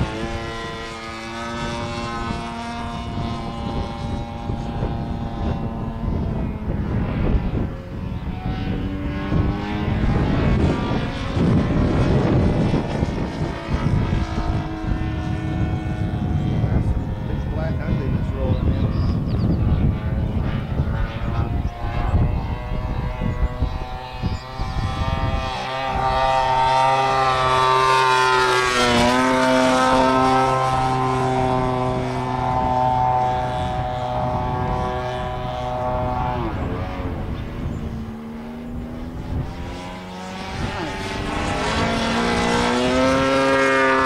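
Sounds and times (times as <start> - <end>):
low rumbling noise: 0.0 - 44.0
model plane engine flying overhead: 0.0 - 44.0.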